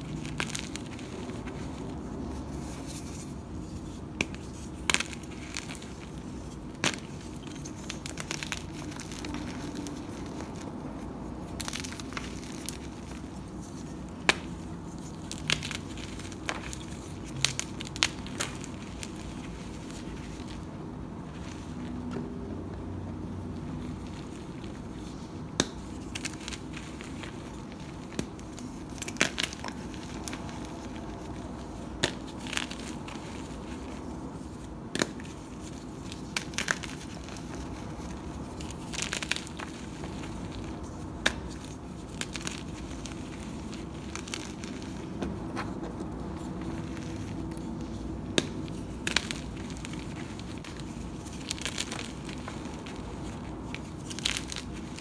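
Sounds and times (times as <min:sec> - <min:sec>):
chalk crumbling and crunching: 0:00.0 - 0:22.1, 0:23.4 - 0:55.0.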